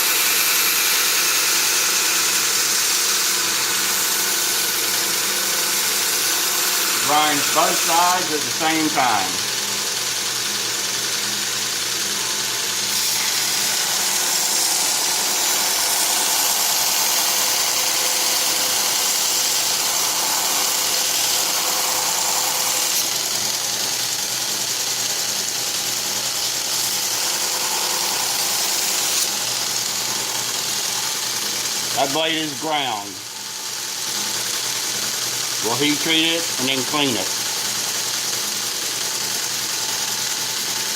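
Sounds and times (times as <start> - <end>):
belt grinder grinding blade: 0.0 - 40.9.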